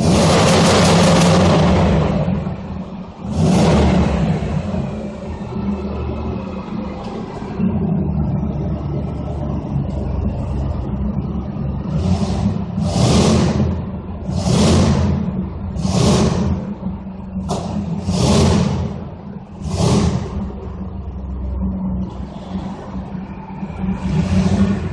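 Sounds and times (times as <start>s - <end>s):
car engine revving with low rumble: 0.0s - 24.9s.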